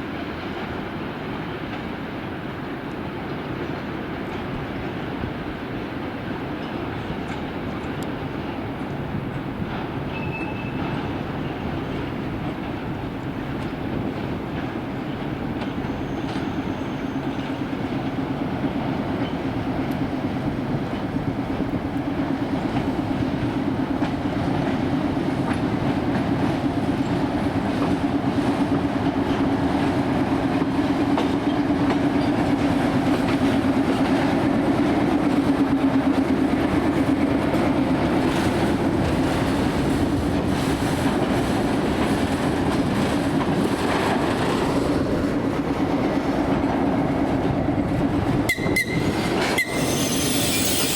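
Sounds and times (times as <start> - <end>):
train wheels clicking over rail joints: 2.8 - 50.9.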